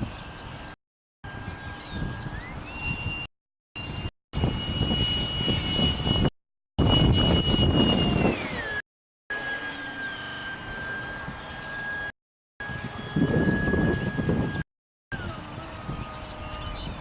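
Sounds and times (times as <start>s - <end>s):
low wind rumble: 0.0s - 8.8s, 10.6s - 17.0s
electric ducted fan whine: 1.3s - 17.0s.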